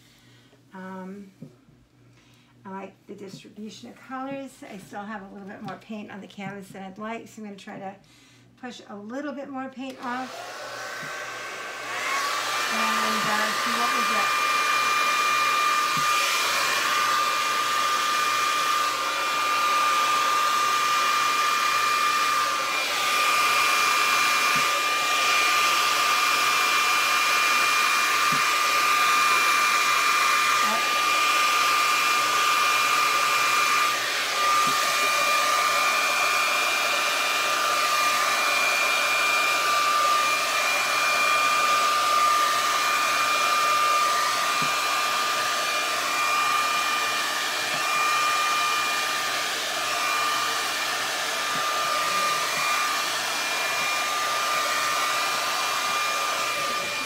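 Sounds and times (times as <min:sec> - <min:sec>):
hair dryer running: 0:00.8 - 0:01.6, 0:08.9 - 0:57.0.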